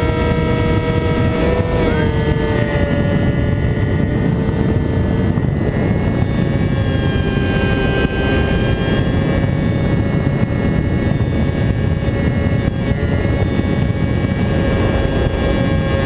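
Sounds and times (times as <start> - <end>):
model airplane motor whine: 0.0 - 16.0
wind noise on microphone: 0.0 - 16.0.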